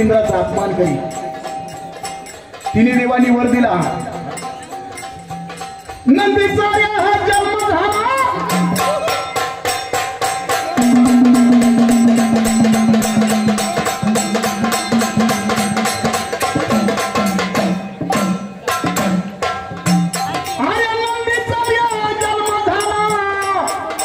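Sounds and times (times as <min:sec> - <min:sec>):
fast driving drum beat: 0:00.0 - 0:24.0
held melody line: 0:00.0 - 0:24.0.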